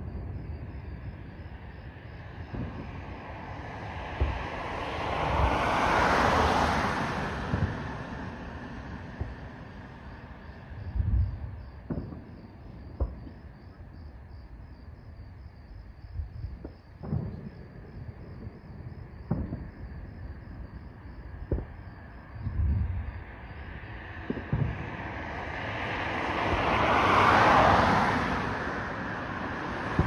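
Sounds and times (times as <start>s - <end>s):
distant fireworks booming: 0.0s - 5.6s, 7.3s - 23.6s, 24.2s - 25.5s, 28.9s - 30.0s
crickets chirping: 0.0s - 30.0s.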